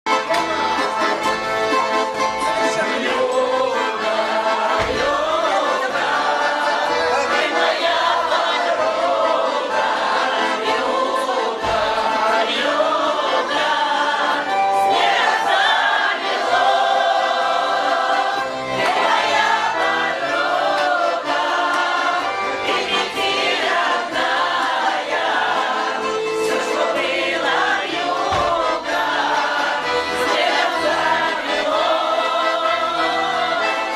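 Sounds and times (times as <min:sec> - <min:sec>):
choir singing: 0:00.2 - 0:33.9.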